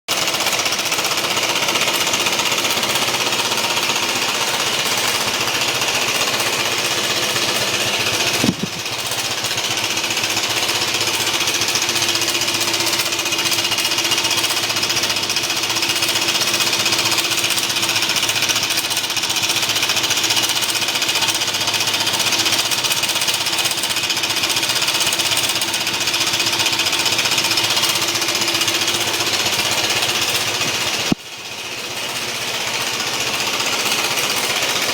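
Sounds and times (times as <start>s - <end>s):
scooter engine clunking rattle: 0.1s - 34.9s.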